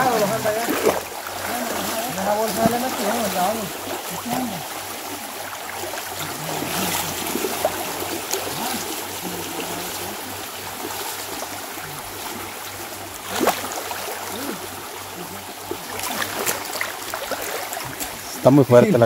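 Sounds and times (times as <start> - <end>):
person wading splashing: 0.0 - 18.4
creek rushing: 0.0 - 19.0.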